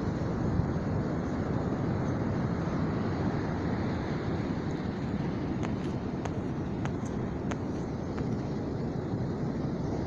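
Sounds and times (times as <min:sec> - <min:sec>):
wind blowing on microphone: 0:00.0 - 0:10.0.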